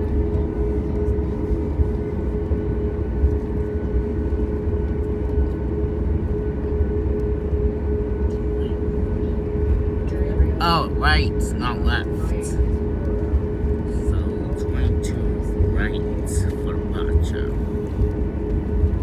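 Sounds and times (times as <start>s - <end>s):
airplane engines idling rumble: 0.0s - 19.0s.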